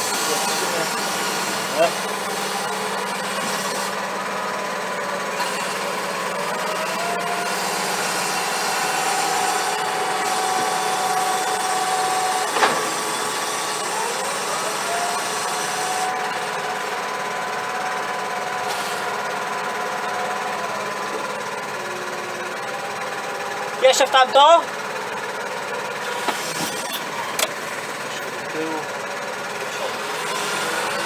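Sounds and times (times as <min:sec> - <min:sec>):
tractor engine whining: 0:00.0 - 0:31.0.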